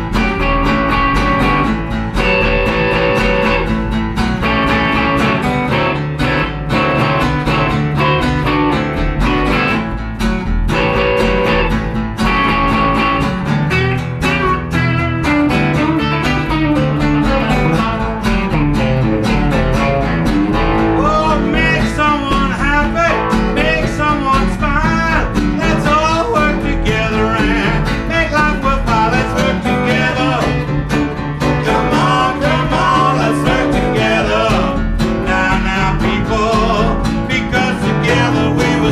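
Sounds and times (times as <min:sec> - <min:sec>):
live blues band: 0:00.0 - 0:38.9
sliding lead guitar line: 0:00.0 - 0:38.9.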